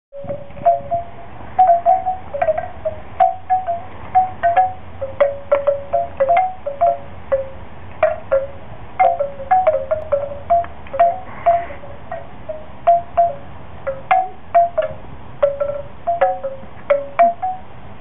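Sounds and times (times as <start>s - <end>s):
wind chime tubes clanging: 0.2s - 17.8s.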